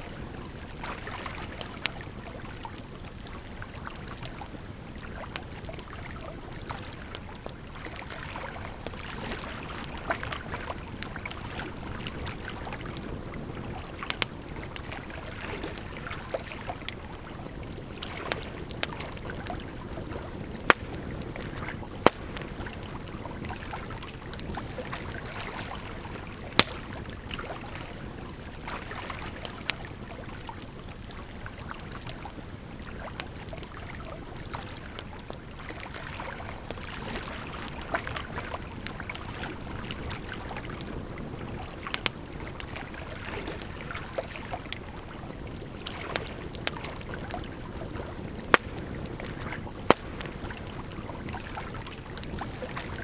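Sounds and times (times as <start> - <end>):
firewood crackling and popping: 0.1 - 53.0.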